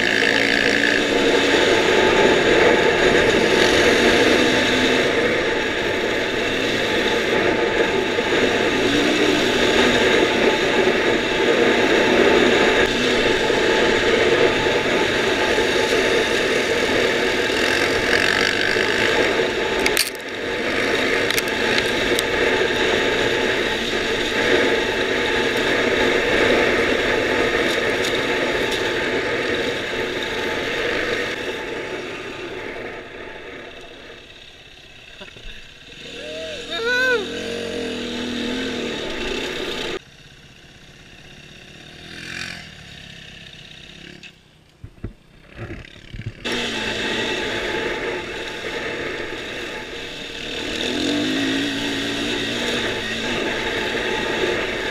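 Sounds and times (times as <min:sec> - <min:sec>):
bike rattling: 0:00.0 - 0:54.9
dirt bike engine running hard: 0:00.0 - 0:54.9.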